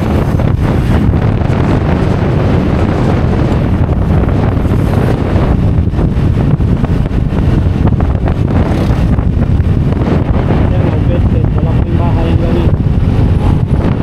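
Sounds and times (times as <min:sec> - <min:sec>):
scooter running and road noise: 0:00.0 - 0:14.0
wind buffeting microphone: 0:00.0 - 0:14.0.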